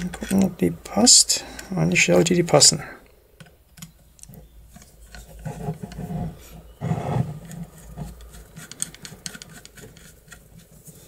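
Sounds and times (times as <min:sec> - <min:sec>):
screwdriver creaking and scraping metal: 0:00.0 - 0:02.8, 0:03.4 - 0:11.0.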